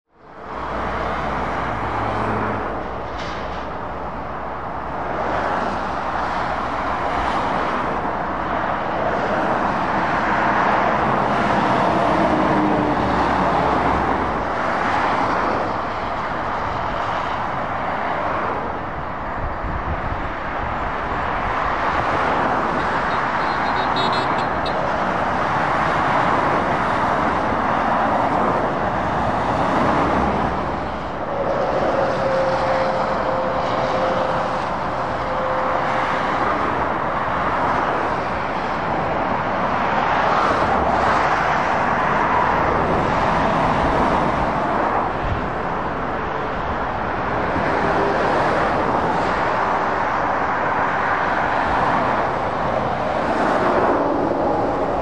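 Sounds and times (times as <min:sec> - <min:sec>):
road traffic passing: 0:00.1 - 0:55.0.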